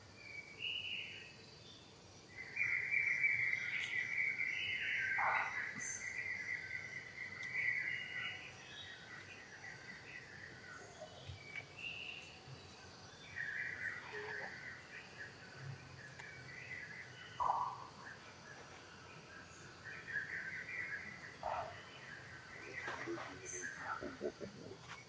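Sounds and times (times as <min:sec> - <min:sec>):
insects buzzing: 0:00.0 - 0:25.0
birds chirping: 0:00.2 - 0:25.0.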